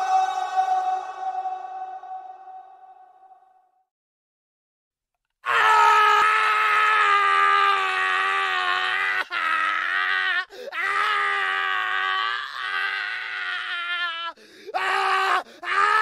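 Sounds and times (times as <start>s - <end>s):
man screaming: 0.0s - 2.3s, 5.4s - 16.0s.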